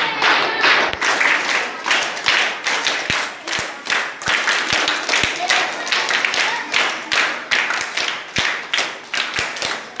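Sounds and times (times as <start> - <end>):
chatter: 0.0 - 10.0
people clapping: 0.0 - 10.0.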